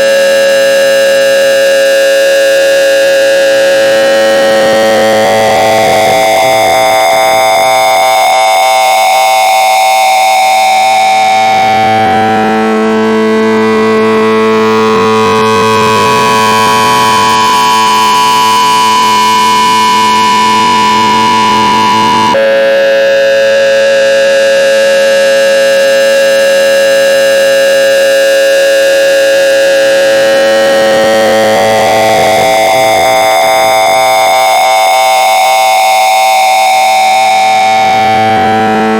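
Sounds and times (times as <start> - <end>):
harsh electronic tones: 0.0 - 38.9.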